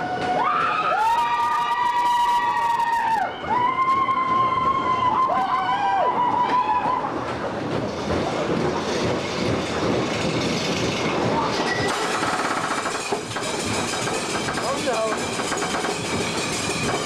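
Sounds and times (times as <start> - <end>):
roller coaster rattling on wooden track: 0.0 - 17.0.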